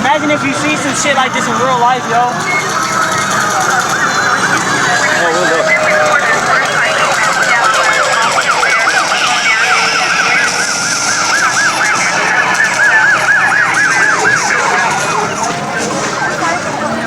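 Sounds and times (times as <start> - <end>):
siren yelping: 0.0 - 17.0.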